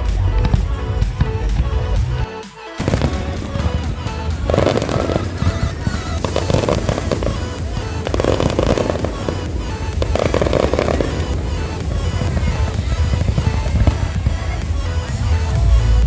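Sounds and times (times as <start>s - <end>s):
fireworks crackling and bursting: 0.0s - 16.0s
music: 0.0s - 16.0s.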